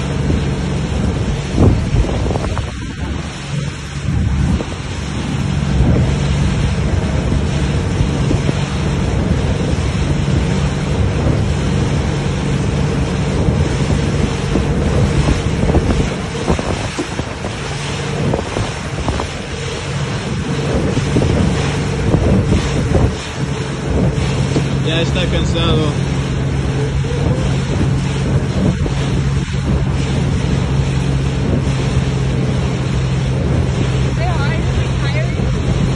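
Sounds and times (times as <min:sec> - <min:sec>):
boat engine humming: 0:00.0 - 0:35.9
churning water rushing: 0:00.0 - 0:35.9
wind buffeting microphone: 0:00.0 - 0:35.9.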